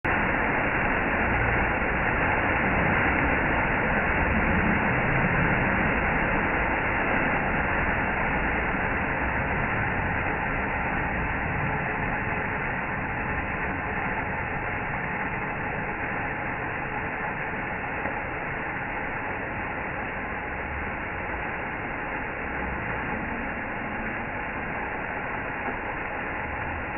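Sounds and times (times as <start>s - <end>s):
waterfall rushing: 0.1s - 26.9s.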